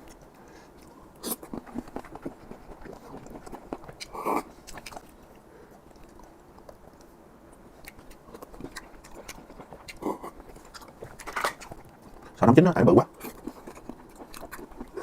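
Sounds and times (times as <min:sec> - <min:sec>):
chewing with wet mouth clicks: 0:00.0 - 0:12.4, 0:13.2 - 0:15.0.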